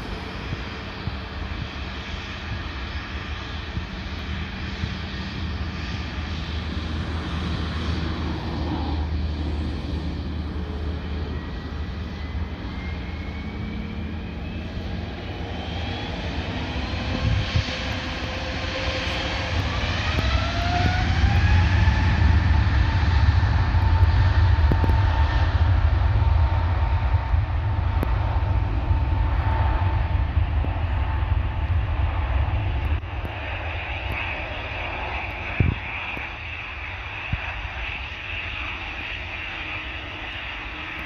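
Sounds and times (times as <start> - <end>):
deep engine rumble: 0.0 - 41.0
jet engines whining: 0.0 - 41.0.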